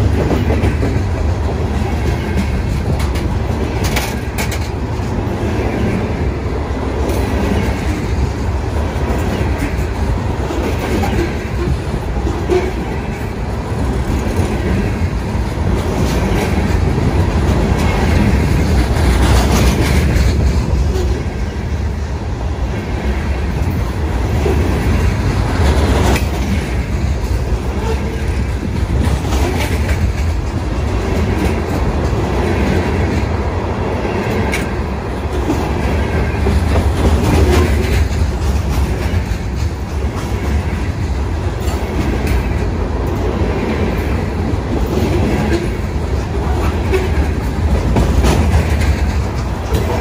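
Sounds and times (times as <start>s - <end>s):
wheels clicking over rail joints: 0.0s - 22.0s, 22.7s - 50.0s
train wheels rumbling on rails: 0.0s - 50.0s.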